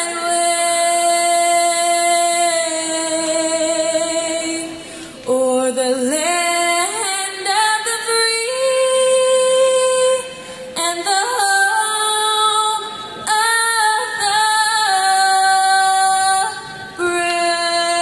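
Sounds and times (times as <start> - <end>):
woman singing a cappella: 0.0 - 18.0.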